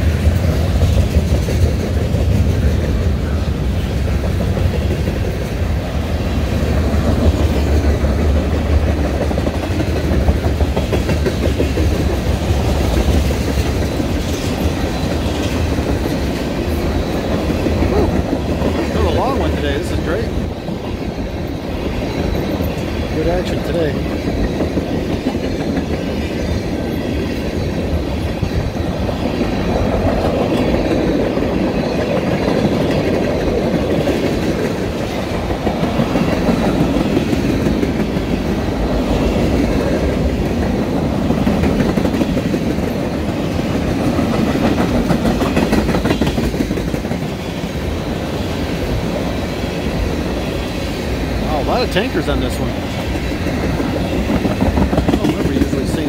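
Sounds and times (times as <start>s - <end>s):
freight train rumble: 0.0s - 56.0s
wheels clacking over rail joints: 0.0s - 56.0s.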